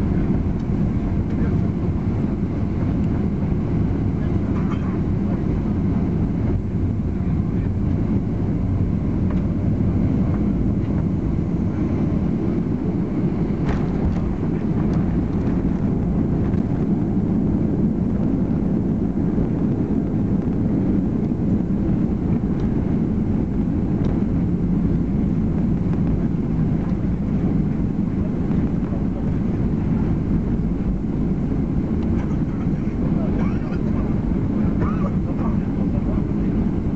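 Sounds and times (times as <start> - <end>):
aircraft cabin rumble: 0.0 - 36.9.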